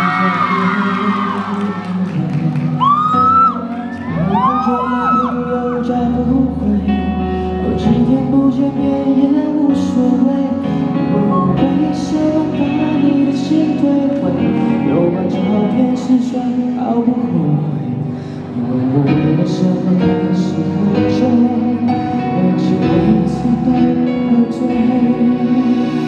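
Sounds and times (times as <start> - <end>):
pop ballad with guitar: 0.0 - 26.0.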